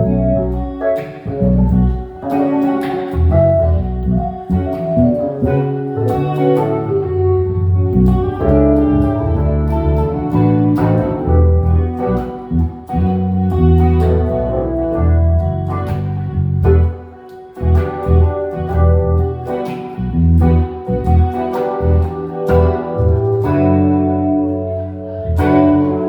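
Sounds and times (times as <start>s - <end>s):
bass line: 0.0s - 26.0s
guitar playing: 0.0s - 26.0s
organ-like keyboard: 0.0s - 26.0s.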